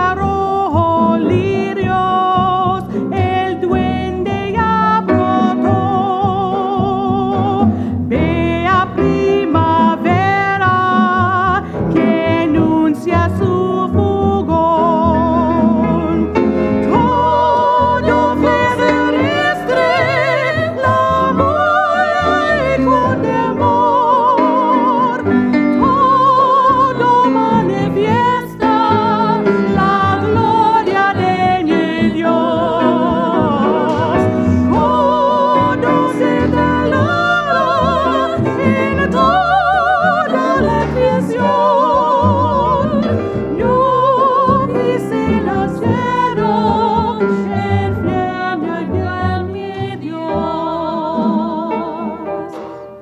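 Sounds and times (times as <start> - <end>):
upright bass: 0.0 - 51.9
piano: 0.0 - 53.0
women singing with vibrato: 0.0 - 53.0.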